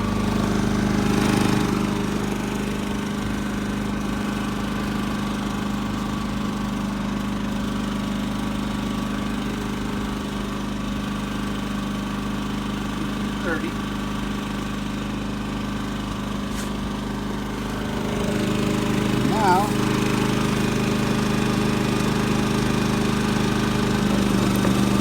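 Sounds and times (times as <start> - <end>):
generator engine humming: 0.0 - 25.0.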